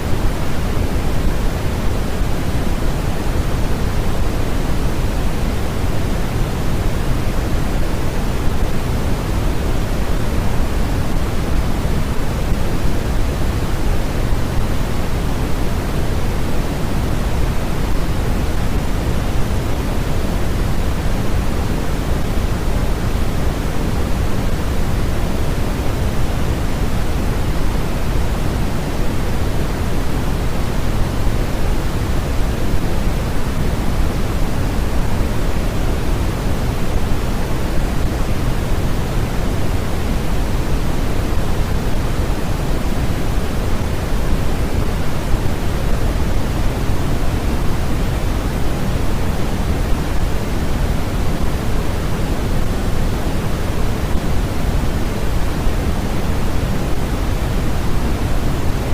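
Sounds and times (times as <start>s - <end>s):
low white noise hiss: 0.0s - 58.9s.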